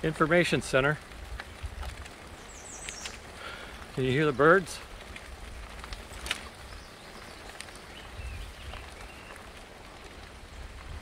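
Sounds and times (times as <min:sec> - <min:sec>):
tyres crunching over sandy dirt: 0:00.0 - 0:11.0
faint birds chirping: 0:01.4 - 0:10.8.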